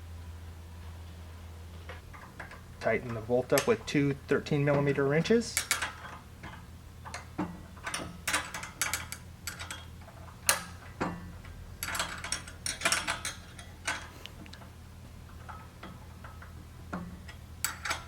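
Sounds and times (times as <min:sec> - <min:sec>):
wrenches clinking on bolt: 0:02.2 - 0:14.1, 0:15.4 - 0:18.0.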